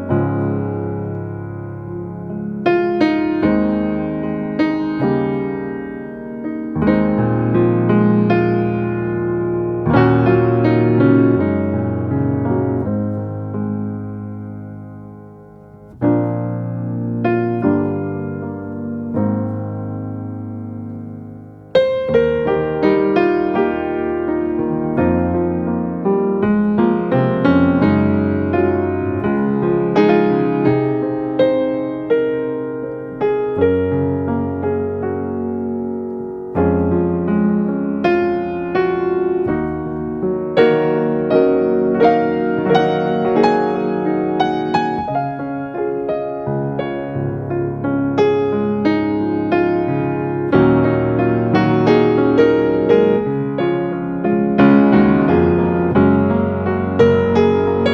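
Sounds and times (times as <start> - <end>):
solo piano music: 0.0 - 57.9.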